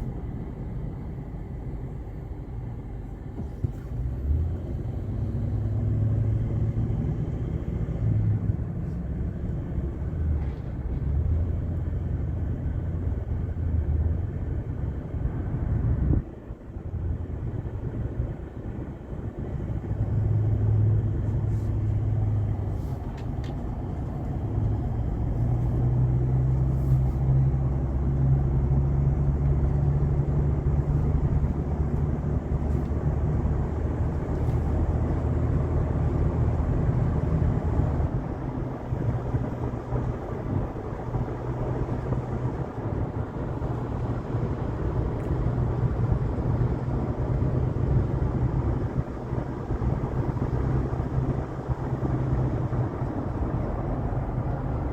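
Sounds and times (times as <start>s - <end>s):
car driving along road: 0.0s - 54.9s.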